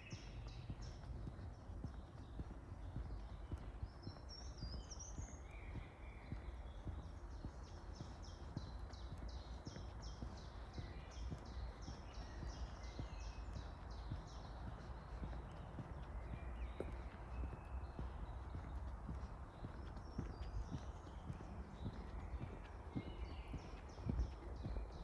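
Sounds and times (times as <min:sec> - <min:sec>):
bird singing: 0:00.0 - 0:25.0.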